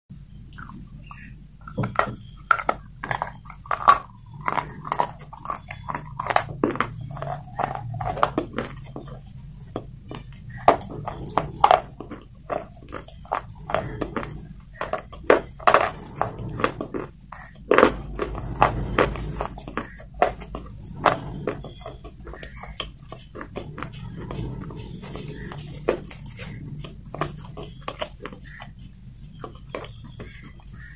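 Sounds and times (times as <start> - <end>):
slate pencil being chewed: 1.8 - 30.9.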